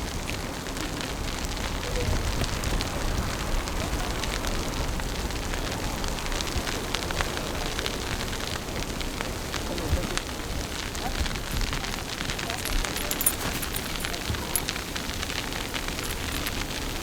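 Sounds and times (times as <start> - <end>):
small crackles: 0.1 - 17.0.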